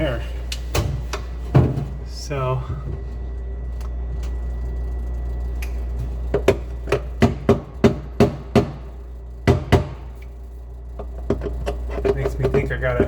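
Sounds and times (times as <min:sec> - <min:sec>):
refrigerator humming: 0:00.0 - 0:13.0.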